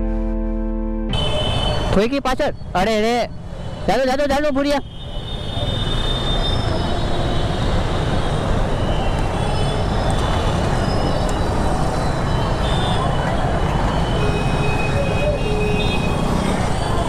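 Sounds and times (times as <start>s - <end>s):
passing traffic: 1.1s - 17.0s.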